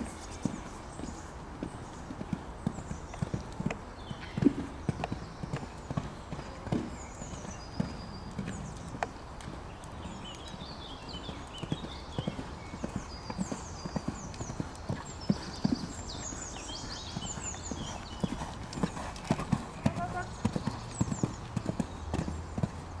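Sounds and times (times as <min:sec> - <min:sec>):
hoofbeats on sand: 0:00.0 - 0:22.8.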